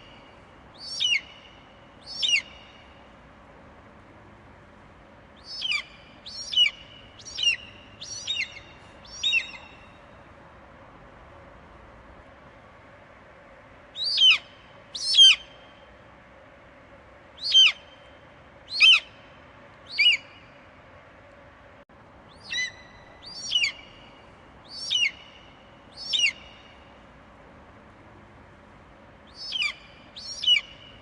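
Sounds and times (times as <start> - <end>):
faint background hiss: 0.0 - 31.0.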